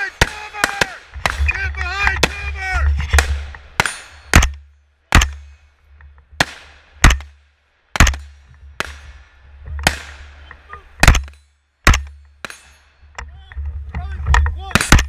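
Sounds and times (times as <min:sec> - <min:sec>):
rifle shots echoing: 0:00.0 - 0:05.7, 0:06.3 - 0:13.1, 0:14.7 - 0:15.0.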